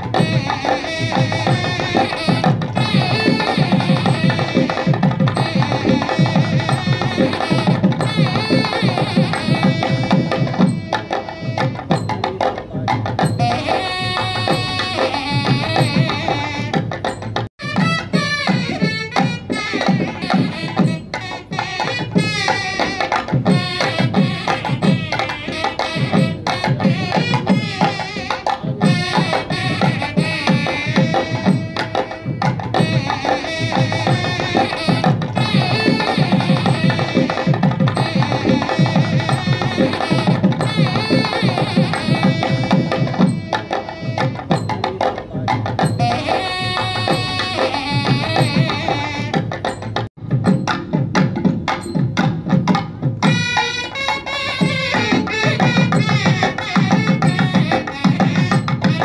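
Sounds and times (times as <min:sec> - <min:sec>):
hand-drum beat: 0:00.0 - 0:59.0.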